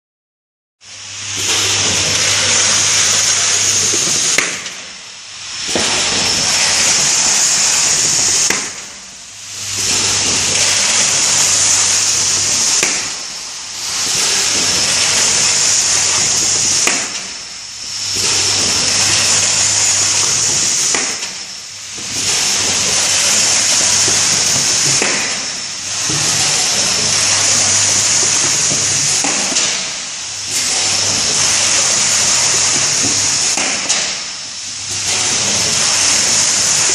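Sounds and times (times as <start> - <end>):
loud pneumatic hiss: 0.8 - 36.9
low electrical hum: 0.8 - 36.9.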